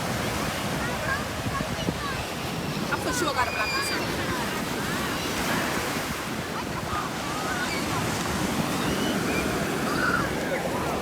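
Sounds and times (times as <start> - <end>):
ocean surf washing onto beach: 0.0 - 11.0.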